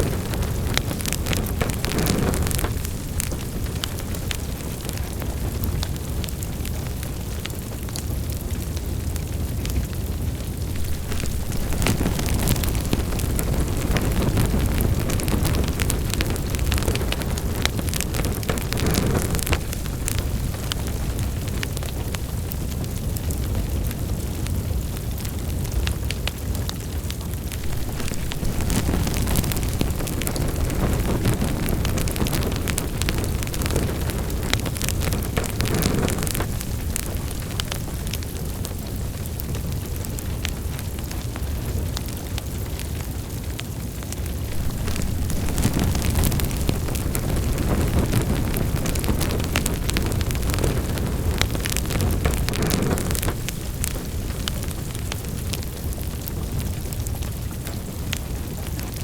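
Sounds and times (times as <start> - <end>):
fire crackling and popping: 0.0 - 59.0
low roar of flames: 0.0 - 59.0.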